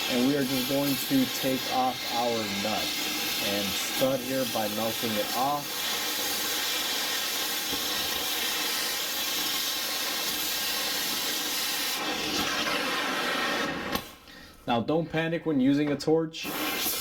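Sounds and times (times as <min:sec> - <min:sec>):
torch flame hissing: 0:00.0 - 0:14.3, 0:16.4 - 0:17.0.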